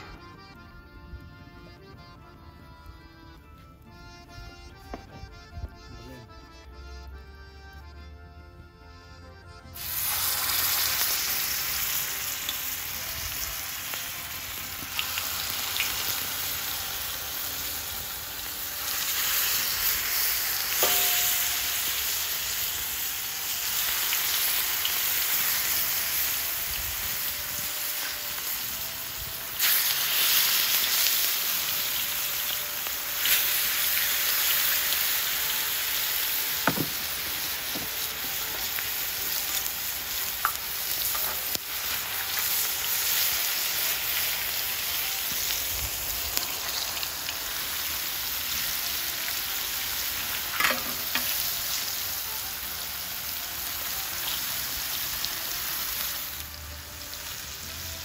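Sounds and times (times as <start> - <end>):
meat sizzling in hot oil: 9.8 - 58.0.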